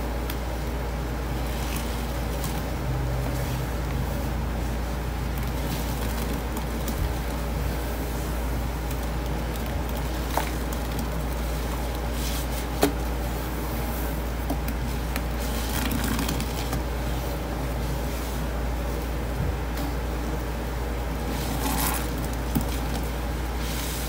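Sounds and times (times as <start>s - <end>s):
sponges squishing in paste: 0.0s - 24.0s
steady low hum: 0.0s - 24.0s.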